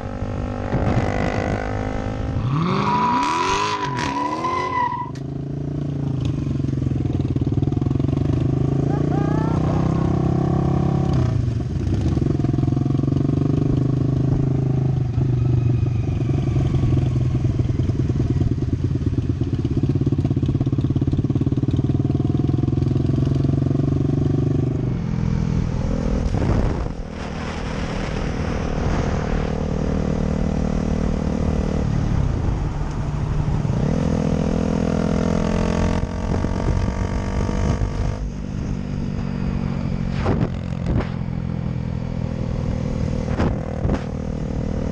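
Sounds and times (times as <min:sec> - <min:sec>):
motorcycle engine running: 0:05.7 - 0:32.5, 0:33.3 - 0:44.9.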